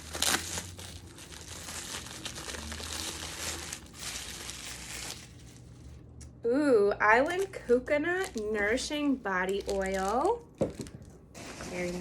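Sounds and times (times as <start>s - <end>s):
packaging crinkling and rustling: 0.0s - 6.0s, 7.2s - 12.0s.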